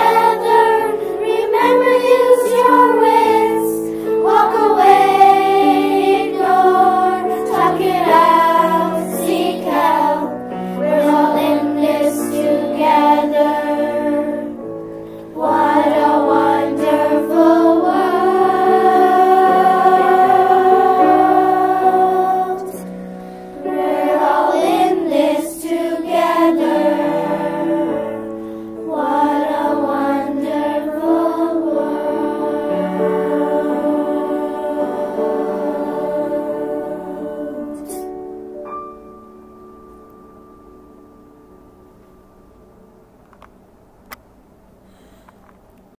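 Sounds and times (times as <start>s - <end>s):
children singing together: 0.0s - 14.6s, 15.2s - 38.2s
instrumental backing music: 0.0s - 42.6s.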